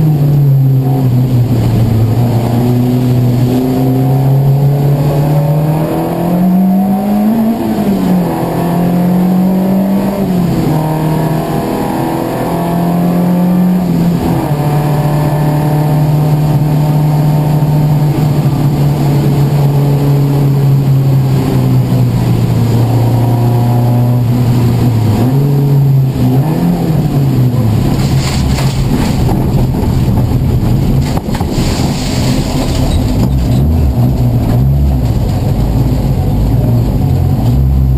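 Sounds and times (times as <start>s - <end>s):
race car engine: 0.0s - 37.9s.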